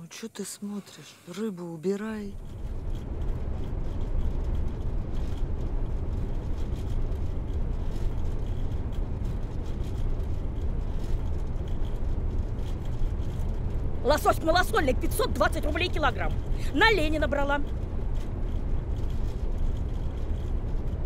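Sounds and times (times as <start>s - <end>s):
faint light rattles: 0.4s - 21.0s
car engine and road rumble: 2.0s - 21.0s.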